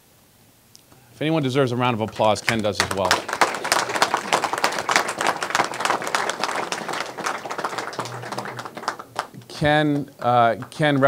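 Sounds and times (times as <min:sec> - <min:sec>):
crowd clapping: 0:01.6 - 0:11.0.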